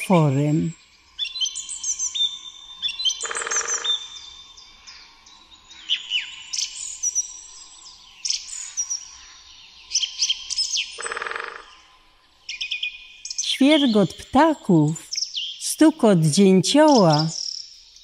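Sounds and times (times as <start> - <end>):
songbirds chirping and trilling: 0.0 - 11.0, 11.6 - 18.0.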